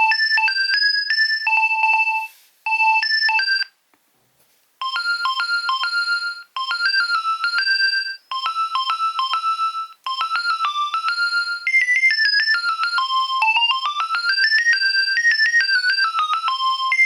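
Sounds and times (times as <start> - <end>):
mobile phone ringtones: 0.0 - 3.7, 4.8 - 17.0.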